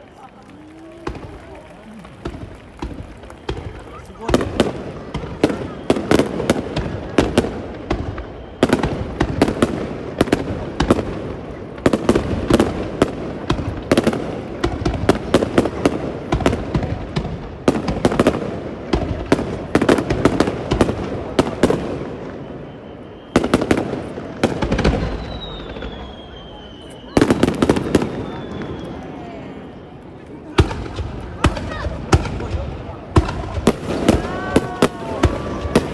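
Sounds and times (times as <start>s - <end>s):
fireworks exploding: 0.0s - 35.9s.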